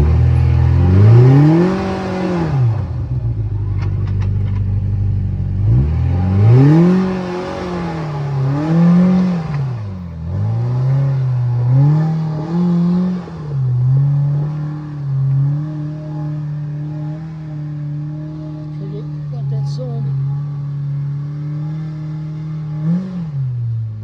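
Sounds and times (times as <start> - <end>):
utv engine revving: 0.0 - 24.0.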